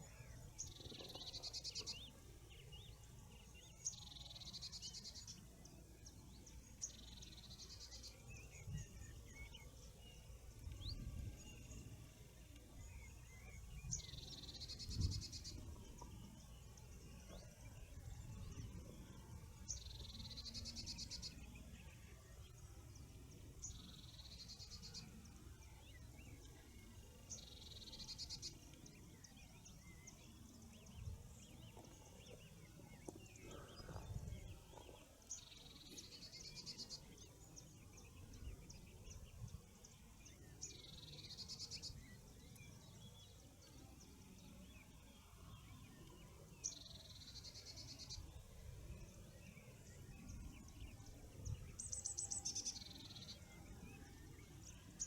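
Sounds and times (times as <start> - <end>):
songbird singing with trill: 0.0 - 55.0.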